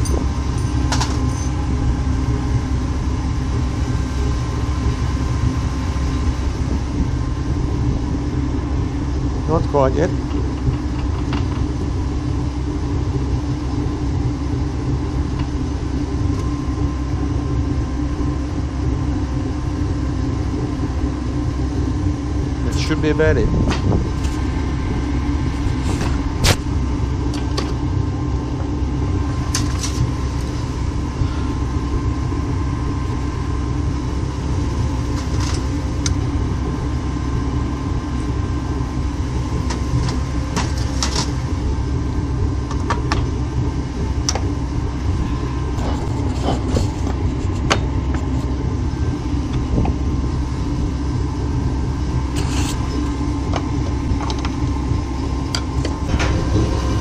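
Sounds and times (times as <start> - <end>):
furnace burner rushing: 0.0 - 57.0.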